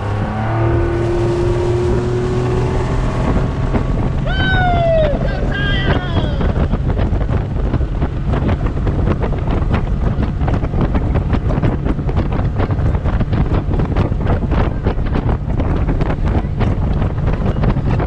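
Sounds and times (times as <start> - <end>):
boat engine rumble: 0.0 - 18.0
wind buffeting microphone: 0.0 - 18.0
water slapping against hull: 1.0 - 18.0.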